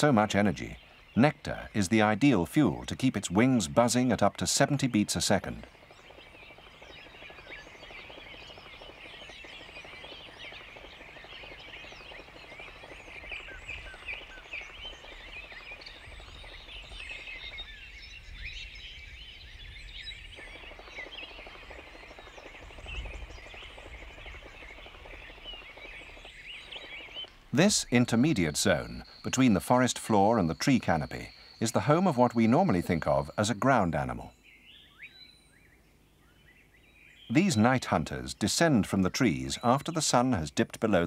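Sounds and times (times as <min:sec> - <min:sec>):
birds chirping and twittering: 0:00.0 - 0:41.0.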